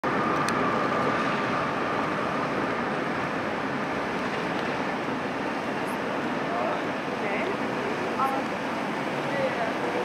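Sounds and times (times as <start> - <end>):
street noise: 0.0 - 10.0
tram on rails: 0.0 - 10.0.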